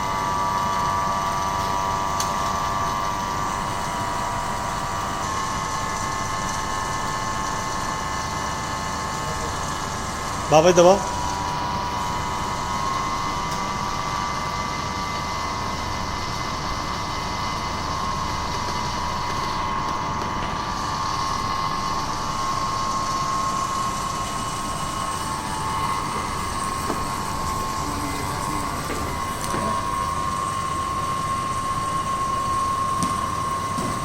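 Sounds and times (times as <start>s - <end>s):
air conditioner humming: 0.0s - 34.0s
steady whine: 0.0s - 34.0s.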